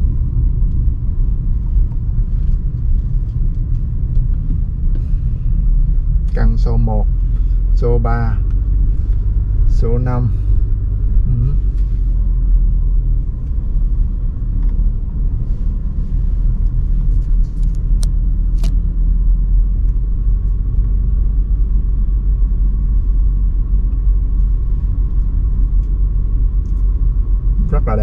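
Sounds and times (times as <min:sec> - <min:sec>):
car driving rumble from inside: 0:00.0 - 0:28.0.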